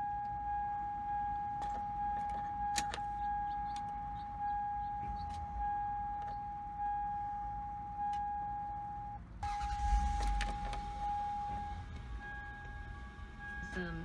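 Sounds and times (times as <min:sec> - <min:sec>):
car warning chime: 0:00.0 - 0:14.0.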